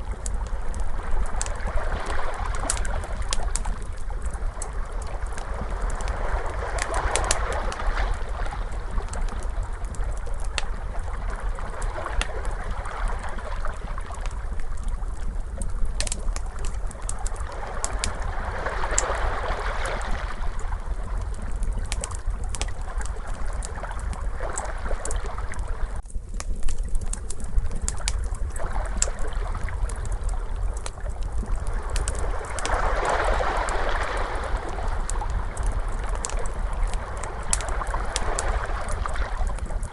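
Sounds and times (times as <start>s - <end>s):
ocean waves washing in and out: 0.0s - 15.2s, 16.4s - 25.9s, 28.5s - 39.9s
steady low rumble: 0.0s - 39.9s
wood fire crackling: 0.0s - 39.9s.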